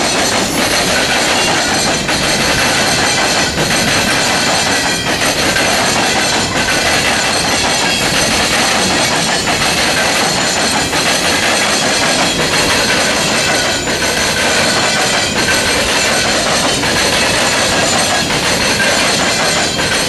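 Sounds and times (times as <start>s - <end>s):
heavy wheel clanks: 0.0s - 20.0s
train wheels rumbling and clattering: 0.0s - 20.0s.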